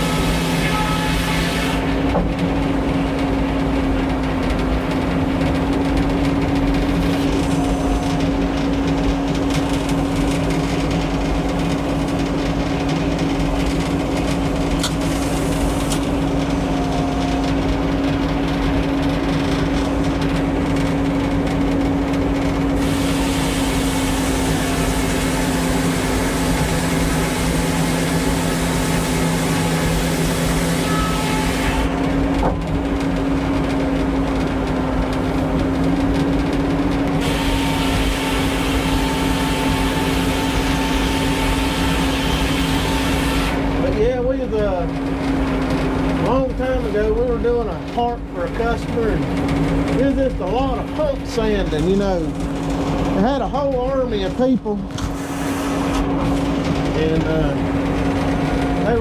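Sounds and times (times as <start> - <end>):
sawmill machine hum: 0.0 - 59.0.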